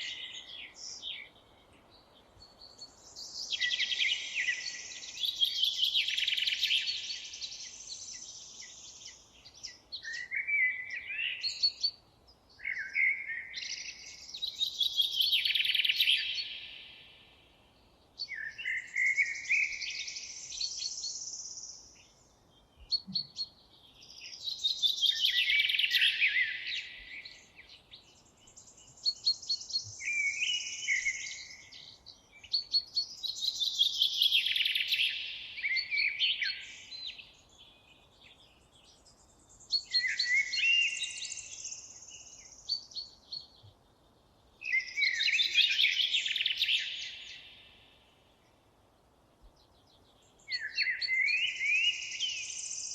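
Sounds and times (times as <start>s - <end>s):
songbird singing trills: 0.0s - 48.7s, 49.4s - 52.9s.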